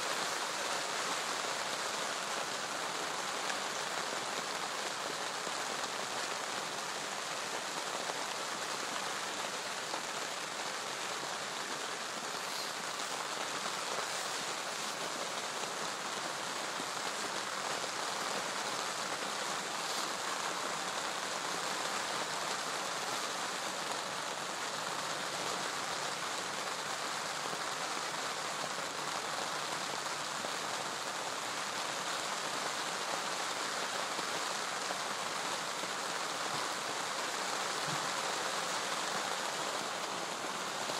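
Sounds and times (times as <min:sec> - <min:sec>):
rain falling on a lake: 0:00.0 - 0:40.9.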